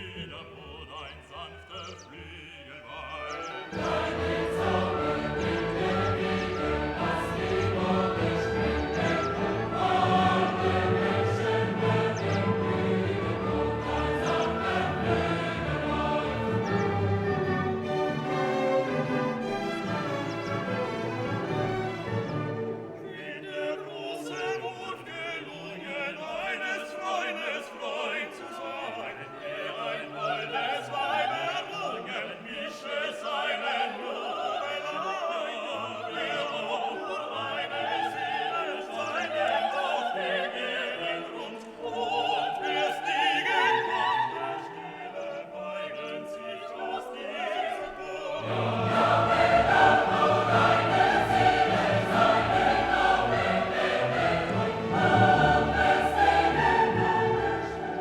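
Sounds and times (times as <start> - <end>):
classical singing with orchestra: 0.0 - 58.0.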